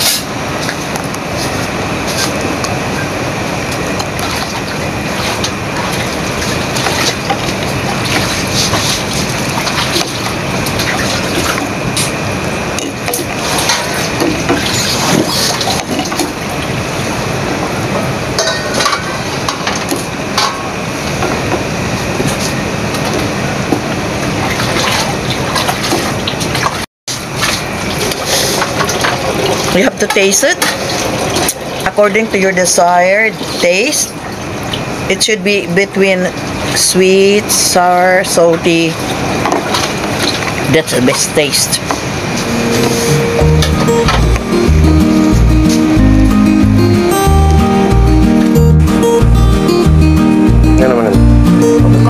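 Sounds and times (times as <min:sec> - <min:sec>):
steady rushing background noise: 0:00.0 - 0:35.1, 0:36.3 - 0:47.4.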